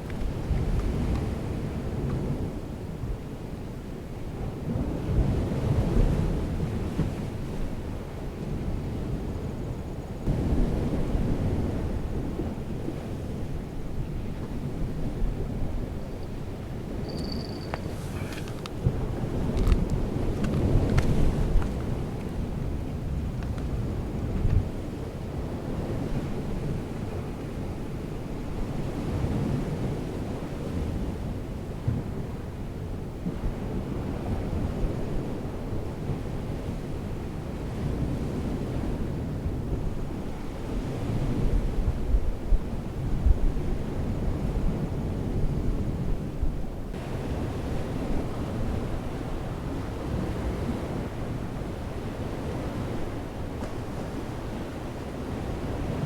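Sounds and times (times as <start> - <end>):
wind buffeting microphone: 0.0 - 56.0
surf washing: 10.3 - 56.0.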